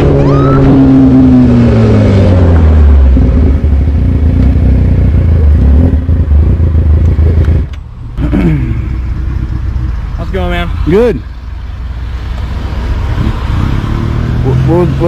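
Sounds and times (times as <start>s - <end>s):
motorcycle engine: 0.0s - 15.0s
road and wind rumble: 0.0s - 15.0s.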